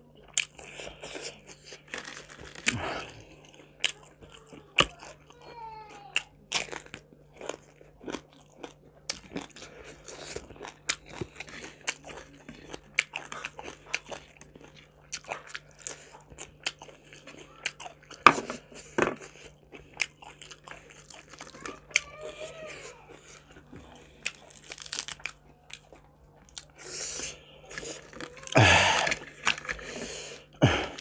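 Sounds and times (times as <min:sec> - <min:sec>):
person chewing crunchy food: 0:00.2 - 0:31.0.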